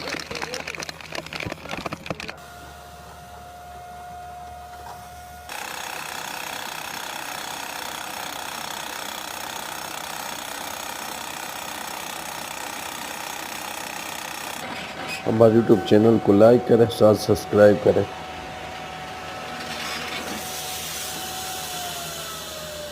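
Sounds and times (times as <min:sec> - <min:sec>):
machine running: 0:00.0 - 0:22.9.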